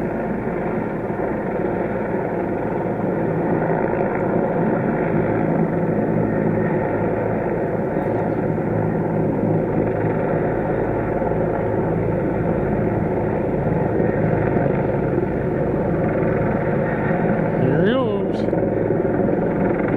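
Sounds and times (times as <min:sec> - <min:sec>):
steady engine drone: 0:00.0 - 0:19.9.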